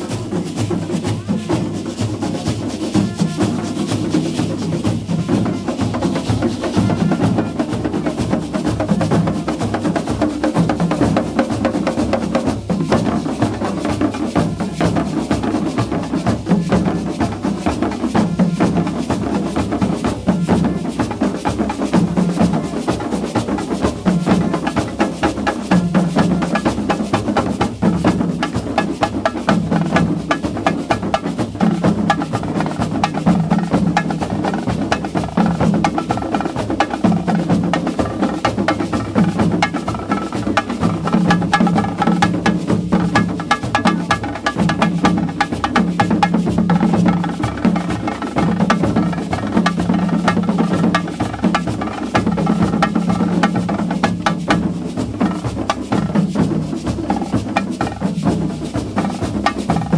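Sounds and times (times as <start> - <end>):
drum band playing: 0.0 - 59.9.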